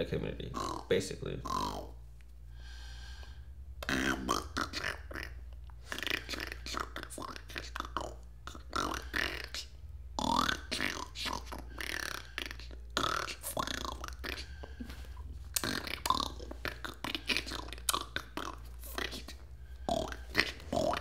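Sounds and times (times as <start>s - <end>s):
steady low hum: 0.0s - 21.0s
person making broken vocal sounds: 0.5s - 2.0s, 3.8s - 21.0s.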